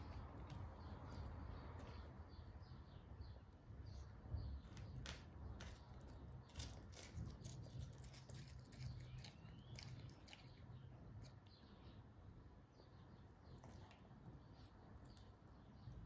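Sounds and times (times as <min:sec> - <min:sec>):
bird chirping faintly: 0:00.0 - 0:16.0.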